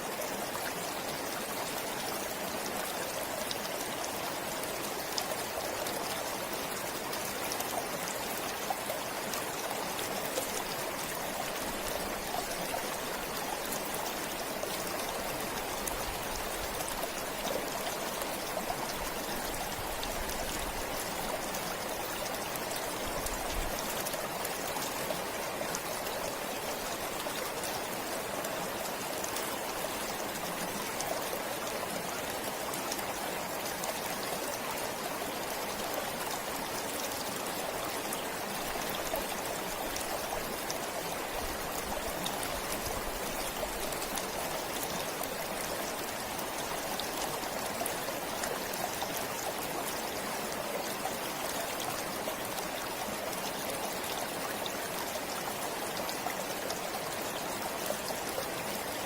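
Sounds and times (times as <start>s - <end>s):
stream flowing and trickling: 0.0s - 59.0s.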